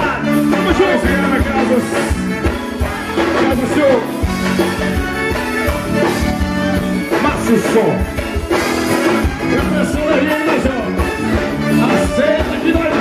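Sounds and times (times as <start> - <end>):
bass drum beat: 0.0 - 13.0
held keyboard or accordion chords: 0.0 - 13.0
live band playing: 0.0 - 13.0.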